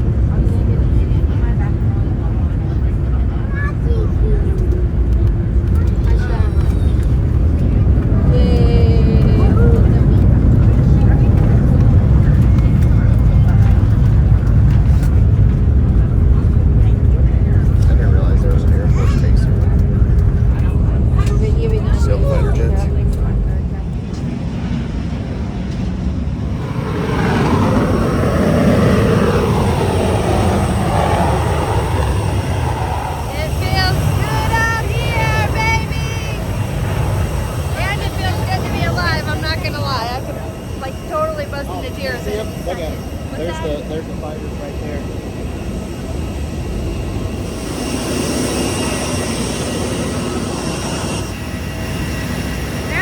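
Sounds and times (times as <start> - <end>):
jet aircraft flying past: 0.0 - 53.0.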